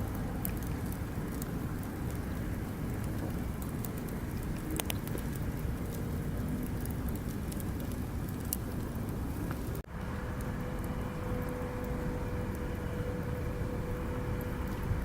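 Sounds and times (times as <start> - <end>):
bonfire crackling and popping: 0.0 - 15.0
low rumble of fire: 0.0 - 15.0.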